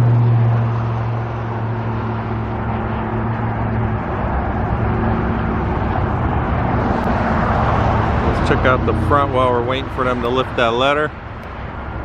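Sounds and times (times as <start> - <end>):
construction site traffic noise: 0.0 - 12.0
diesel engine hum: 0.0 - 12.0.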